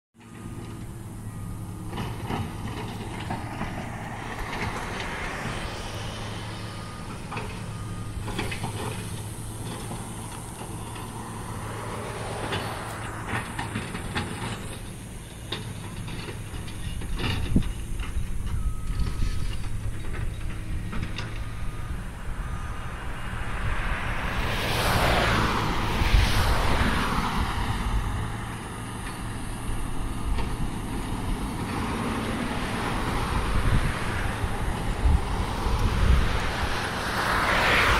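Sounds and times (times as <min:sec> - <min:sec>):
low engine hum: 0:00.2 - 0:37.9
vehicles passing: 0:00.2 - 0:37.9.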